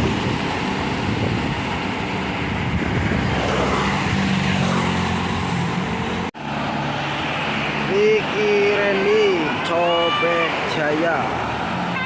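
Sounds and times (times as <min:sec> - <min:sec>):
tyre and traffic noise: 0:00.0 - 0:12.0.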